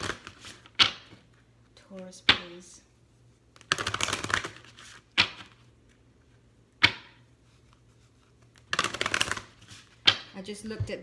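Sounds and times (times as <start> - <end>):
cards being shuffled: 0.0 - 2.4, 3.4 - 10.3.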